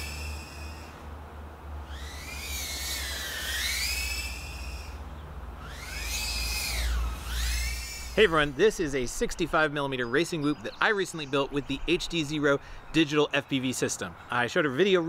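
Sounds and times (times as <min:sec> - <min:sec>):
quadcopter motors whining: 0:00.0 - 0:12.9
low steady rumble: 0:00.0 - 0:13.0.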